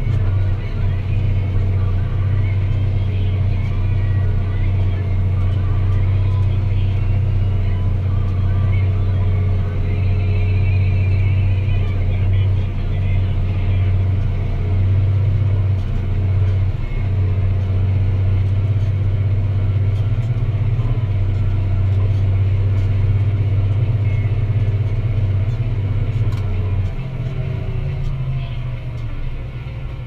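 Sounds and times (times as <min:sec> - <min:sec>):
tractor diesel engine droning: 0:00.0 - 0:30.0.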